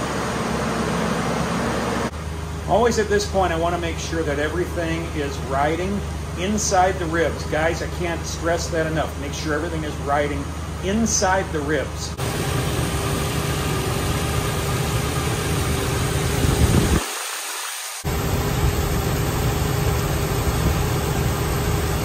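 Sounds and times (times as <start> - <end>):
truck engine idling: 0.0 - 17.0, 18.0 - 22.0.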